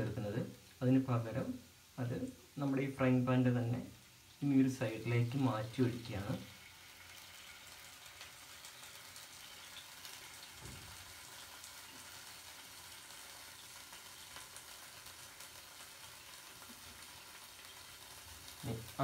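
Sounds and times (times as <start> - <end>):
paste sizzling in hot oil: 0.0 - 19.0.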